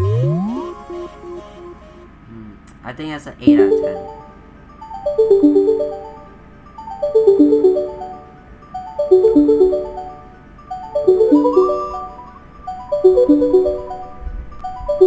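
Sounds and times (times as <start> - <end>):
phone ringtone melody: 0.0 - 2.0, 3.5 - 15.0.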